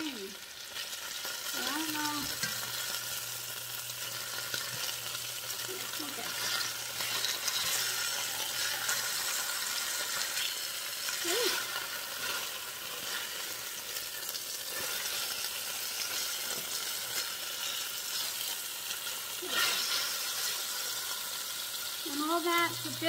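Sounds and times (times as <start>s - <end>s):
meat sizzling in hot fat: 0.0s - 23.0s.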